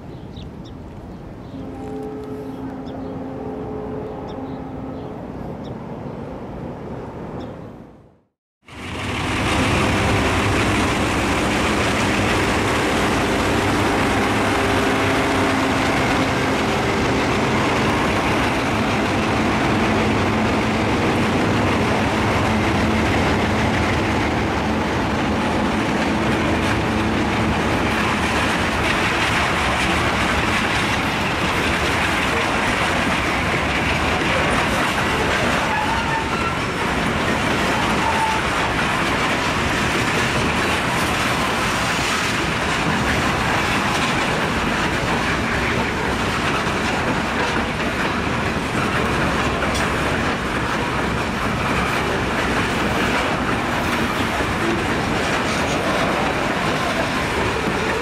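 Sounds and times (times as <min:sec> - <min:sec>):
diesel locomotive engines droning: 0:00.0 - 0:58.0
train wheels clacking over joints: 0:08.8 - 0:58.0.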